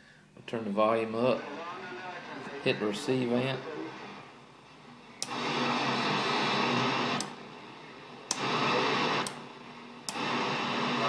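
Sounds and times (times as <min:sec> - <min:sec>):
radio static hiss: 0:00.5 - 0:11.0.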